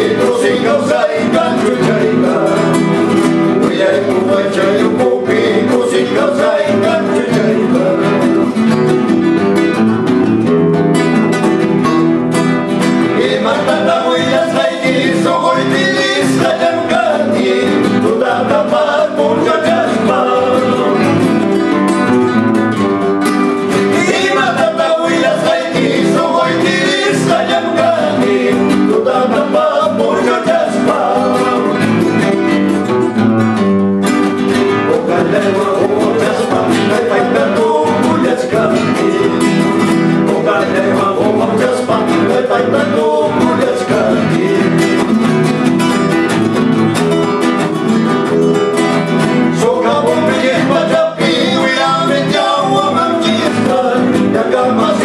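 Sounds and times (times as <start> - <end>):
men singing: 0.0 - 8.9, 12.8 - 22.7, 23.6 - 32.6, 34.5 - 45.8, 48.8 - 55.0
acoustic guitars strumming: 0.0 - 55.0.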